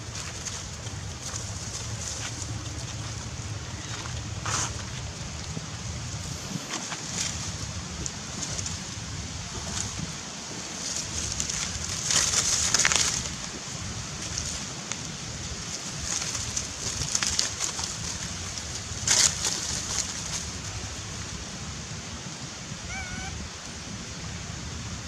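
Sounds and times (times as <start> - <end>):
dry leaves rustling and scuffing: 0.0 - 22.0
low outdoor rumble: 0.0 - 25.0.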